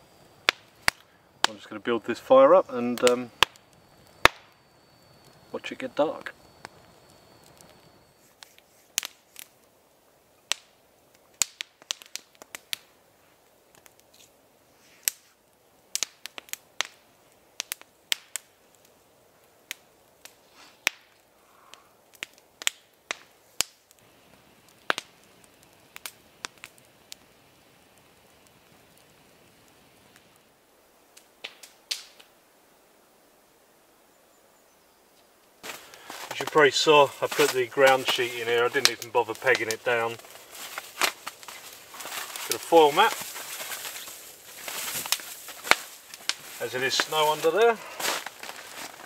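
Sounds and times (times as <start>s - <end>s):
campfire crackling and popping: 0.0s - 34.1s, 35.1s - 49.0s.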